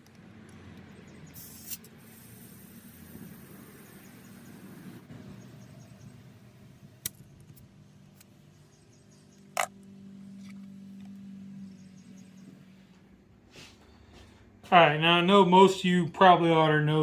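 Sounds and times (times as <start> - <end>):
low steady hum: 1.9 - 17.0.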